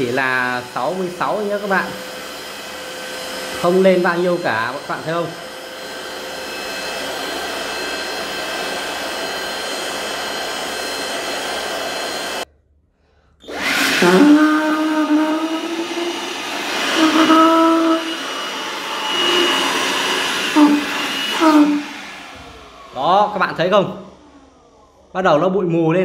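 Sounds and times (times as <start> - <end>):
handheld vacuum cleaner motor: 0.0 - 12.5, 13.4 - 25.1.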